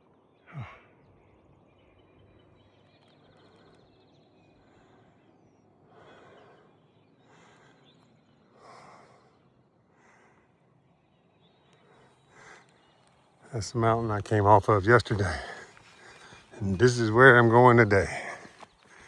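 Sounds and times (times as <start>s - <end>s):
faint breathing: 3.0s - 13.5s, 14.1s - 19.0s.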